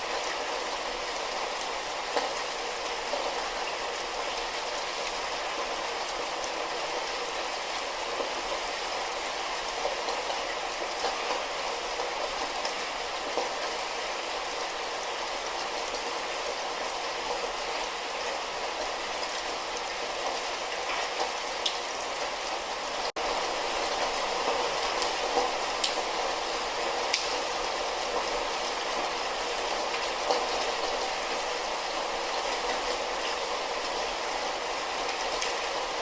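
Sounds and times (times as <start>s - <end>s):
light rain falling: 0.0s - 36.0s.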